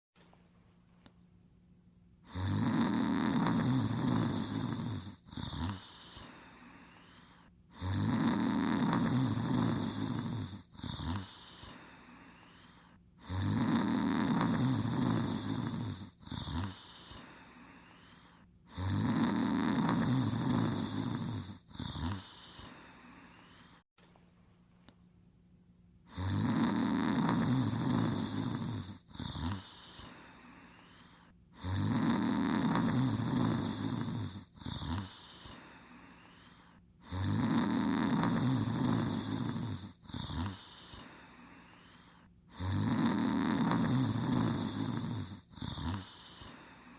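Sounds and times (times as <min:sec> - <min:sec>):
cartoon character snoring: 0:02.2 - 0:23.8, 0:26.1 - 0:36.1, 0:37.0 - 0:46.9.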